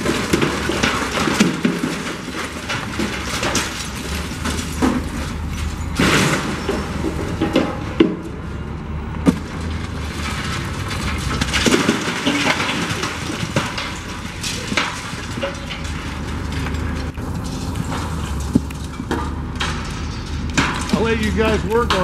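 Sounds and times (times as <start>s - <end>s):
debris crashing and crumbling: 0.0s - 22.0s
heavy equipment rumble: 0.0s - 22.0s.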